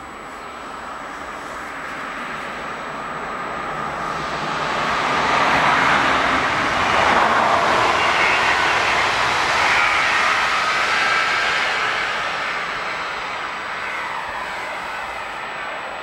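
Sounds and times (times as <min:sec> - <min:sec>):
faint steady whine: 0:00.0 - 0:16.0
train wheels roaring on rails: 0:00.0 - 0:16.0.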